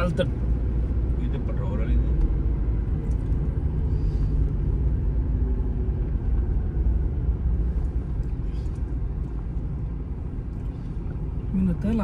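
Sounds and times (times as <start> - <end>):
diesel engine rumble inside cabin: 0.0 - 12.0.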